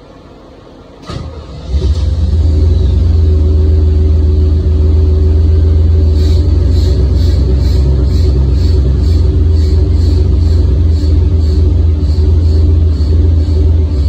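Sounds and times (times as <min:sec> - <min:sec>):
car engine starting and idling: 0:01.0 - 0:14.0.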